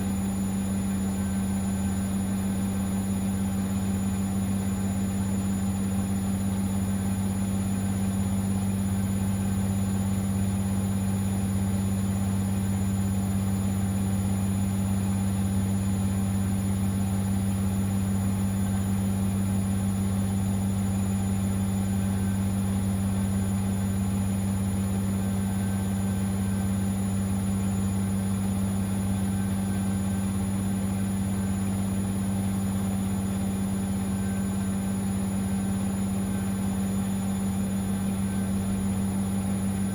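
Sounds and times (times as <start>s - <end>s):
washing machine spin hum: 0.0s - 39.9s.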